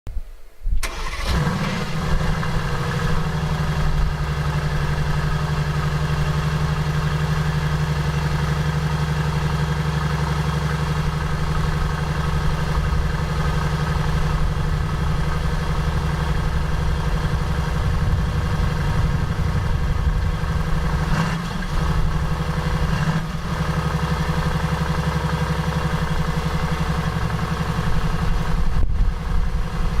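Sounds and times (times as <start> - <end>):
car engine starting and idling: 0.8 - 30.0.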